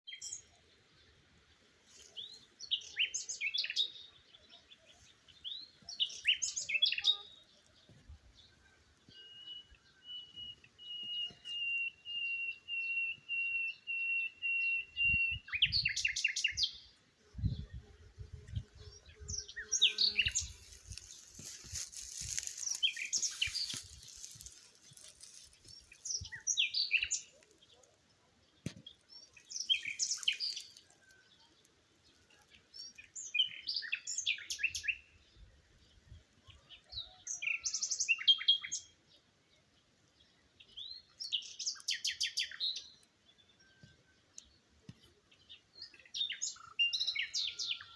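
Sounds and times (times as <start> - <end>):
birds chirping and trilling: 2.2 - 17.8, 18.5 - 39.3, 40.2 - 47.9.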